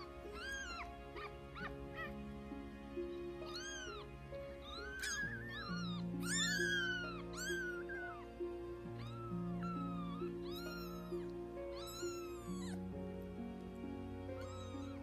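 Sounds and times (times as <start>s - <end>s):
kittens mewing: 0.0s - 2.2s, 3.0s - 12.9s, 14.4s - 15.0s
soft background music: 0.0s - 15.0s.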